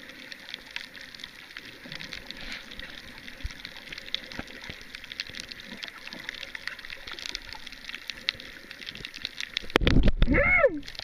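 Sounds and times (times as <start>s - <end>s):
underwater crackle of clicks and pops: 0.0s - 11.0s
water hiss against camera: 0.0s - 11.0s.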